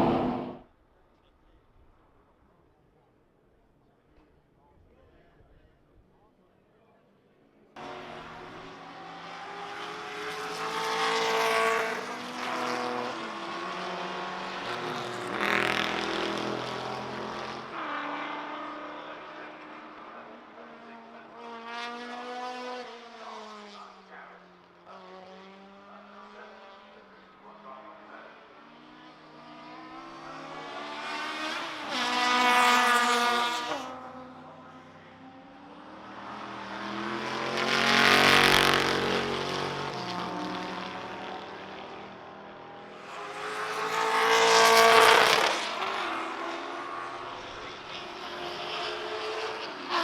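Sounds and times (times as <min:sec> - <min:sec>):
racing cars passing at speed: 0:00.0 - 0:00.6, 0:07.8 - 0:50.0.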